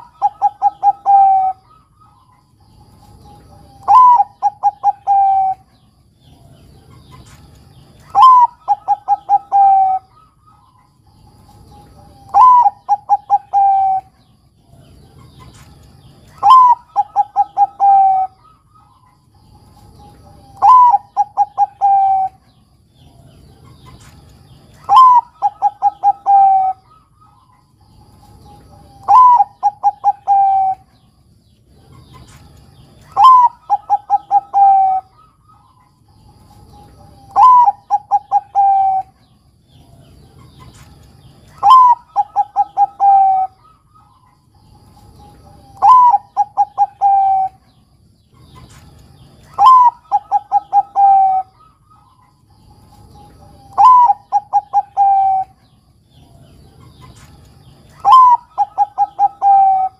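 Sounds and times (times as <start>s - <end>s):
dove cooing: 0.0s - 31.1s, 31.7s - 59.9s.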